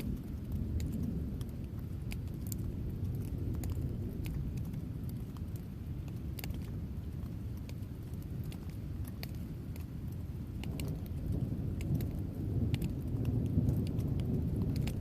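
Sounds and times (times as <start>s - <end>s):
low thunder rumble: 0.0s - 15.0s
raindrop ticks: 0.0s - 15.0s.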